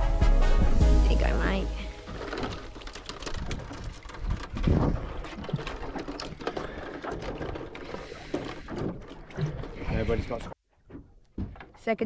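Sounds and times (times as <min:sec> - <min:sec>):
fishing gear clicking and knocking: 0:02.0 - 0:11.9.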